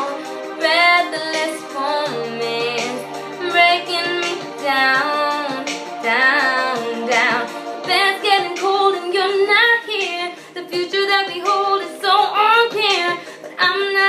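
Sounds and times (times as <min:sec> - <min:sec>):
woman singing pop ballad: 0:00.0 - 0:14.0.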